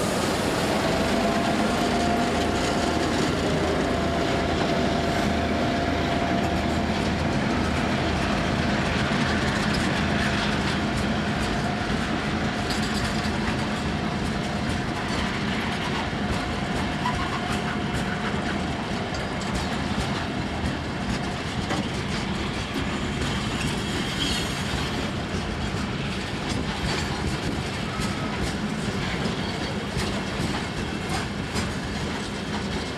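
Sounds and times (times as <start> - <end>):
train wheels clickety-clack: 0.0 - 32.9.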